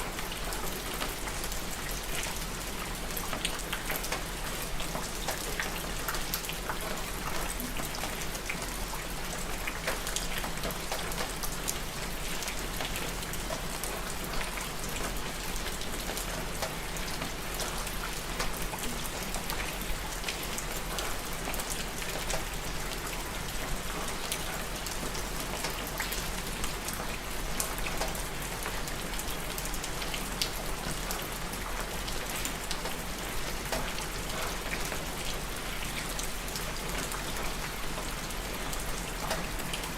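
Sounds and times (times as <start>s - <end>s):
raindrops pattering on a surface: 0.0s - 39.9s
steady rain: 0.0s - 39.9s.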